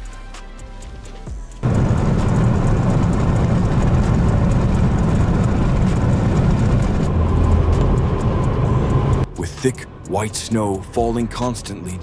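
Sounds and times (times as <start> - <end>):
vehicle driving on snowy road: 1.6 - 11.8.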